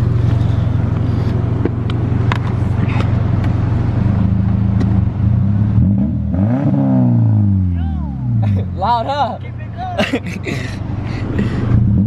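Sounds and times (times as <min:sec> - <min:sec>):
car engine exhaust drone: 0:00.0 - 0:12.0.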